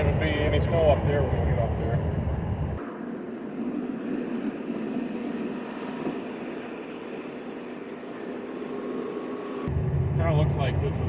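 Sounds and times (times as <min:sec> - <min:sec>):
road and engine noise in truck cab: 0:00.0 - 0:11.0
tyres on snowy road: 0:00.0 - 0:11.0.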